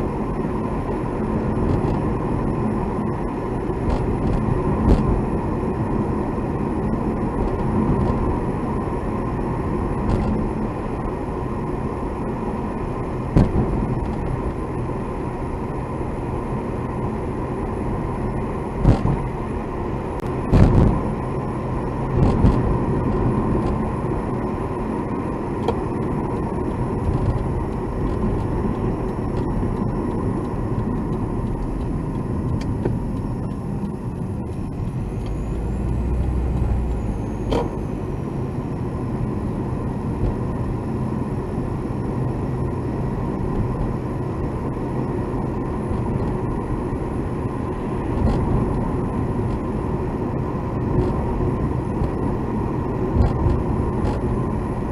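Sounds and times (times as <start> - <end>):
road and engine drone: 0.0 - 54.9.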